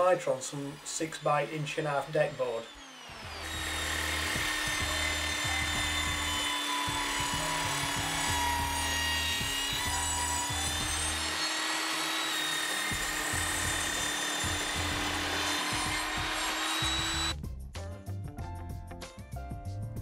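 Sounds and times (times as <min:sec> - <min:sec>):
saw blade cutting wood: 0:00.0 - 0:17.4
table saw whining: 0:00.0 - 0:17.4.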